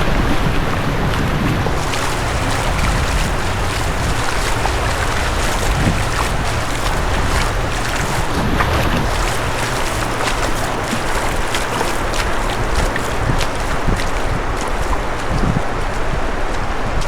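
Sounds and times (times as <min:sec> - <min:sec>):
wind buffeting microphone: 0:00.0 - 0:17.0
surf washing on beach: 0:00.4 - 0:17.0.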